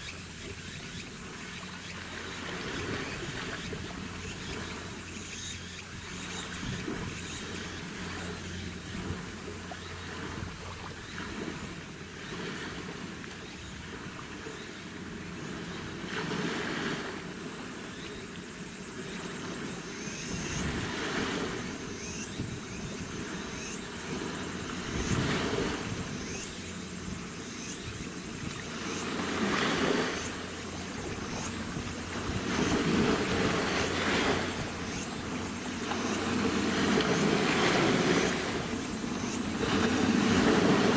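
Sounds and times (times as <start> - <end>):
ship engines humming: 0.0 - 15.4, 21.4 - 40.9
waves washing in: 0.0 - 40.9.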